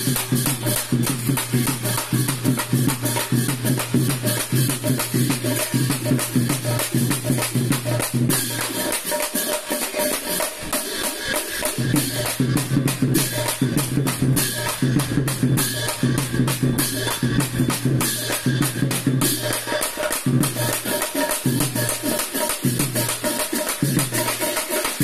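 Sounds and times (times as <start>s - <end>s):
hand cymbals clashing: 0.0s - 25.0s.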